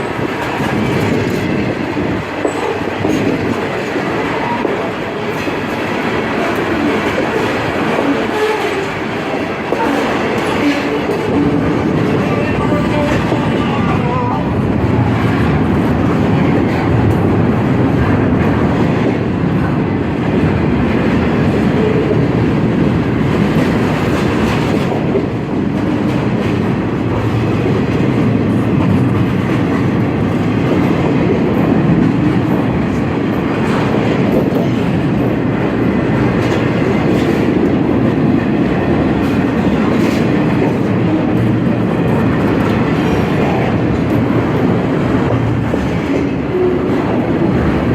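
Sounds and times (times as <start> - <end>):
freight train wheels rumbling: 0.0 - 47.9.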